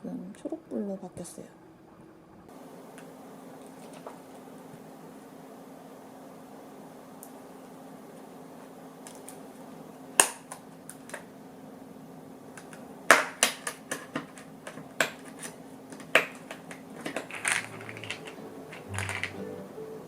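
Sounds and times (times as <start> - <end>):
air purifier fan humming: 0.0 - 20.0.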